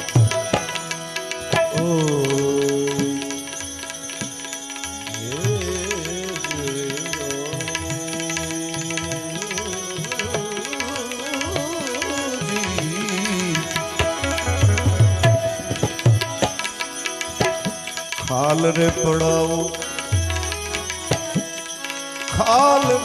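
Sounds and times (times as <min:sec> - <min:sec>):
devotional instrumental melody: 0:00.0 - 0:23.0
tabla playing: 0:00.0 - 0:23.0.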